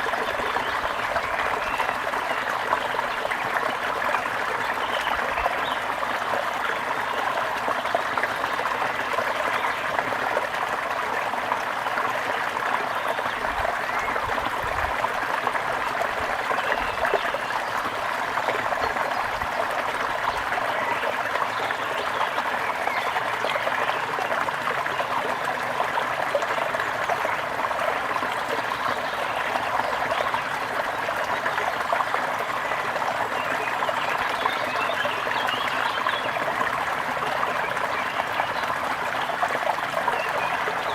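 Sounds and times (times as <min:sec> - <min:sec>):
stream water running: 0:00.0 - 0:40.9.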